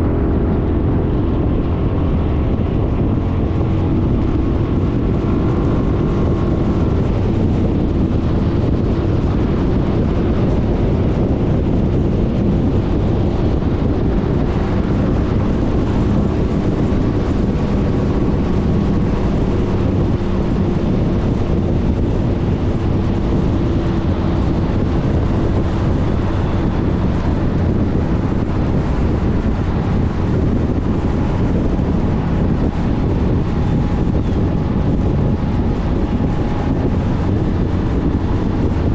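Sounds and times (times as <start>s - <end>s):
road noise: 0.0s - 38.9s
scooter engine drone: 0.0s - 38.9s
wind rush on microphone: 0.0s - 38.9s.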